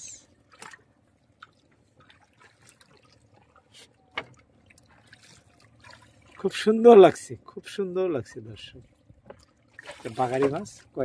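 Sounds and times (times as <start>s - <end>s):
water trickling and dripping: 0.1s - 6.9s, 8.3s - 11.0s.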